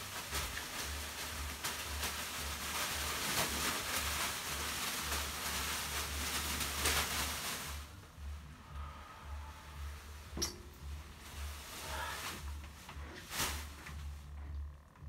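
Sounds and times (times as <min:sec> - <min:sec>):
leafy brooms swishing: 0:00.0 - 0:14.4.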